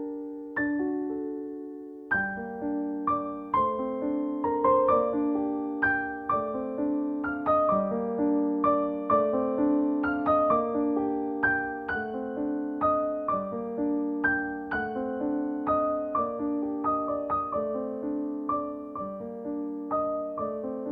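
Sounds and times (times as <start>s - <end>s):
soft piano music: 0.0s - 20.9s.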